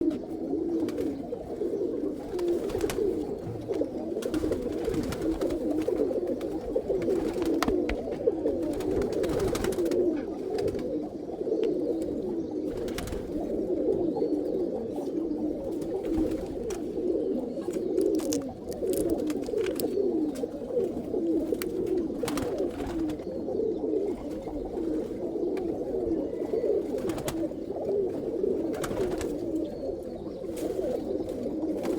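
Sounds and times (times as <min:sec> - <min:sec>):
pigeons cooing: 0:00.0 - 0:31.9.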